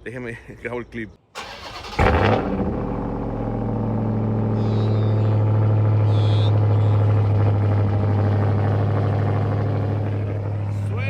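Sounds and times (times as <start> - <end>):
loud deep engine idling: 1.6 - 11.0.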